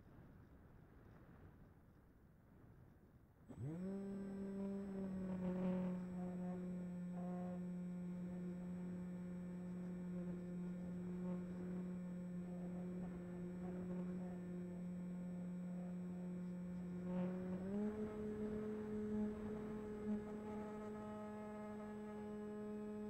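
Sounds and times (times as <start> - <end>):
electric motor and propeller drone: 3.5 - 23.0.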